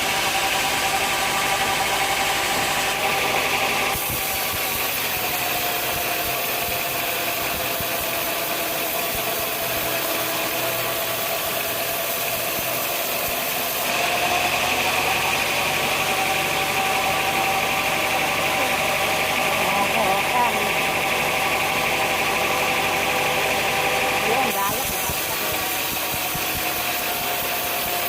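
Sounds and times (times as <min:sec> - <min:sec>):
sawmill machinery humming: 0:00.0 - 0:28.0.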